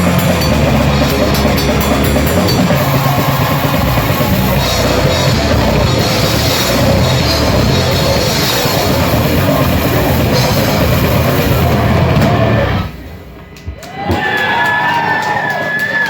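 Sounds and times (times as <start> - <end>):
band playing live: 0.0 - 13.5.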